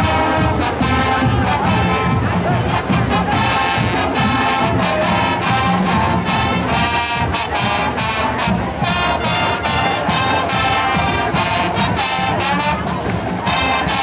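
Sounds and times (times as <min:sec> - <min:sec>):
marching band brass: 0:00.0 - 0:14.0.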